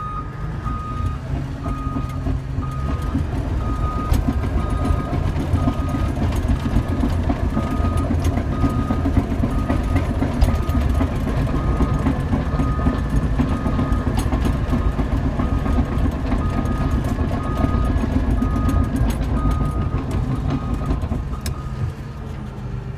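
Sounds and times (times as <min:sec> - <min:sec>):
reversing alarm beeps: 0:00.0 - 0:06.1, 0:07.5 - 0:21.8
bulldozer diesel engine: 0:00.0 - 0:22.9.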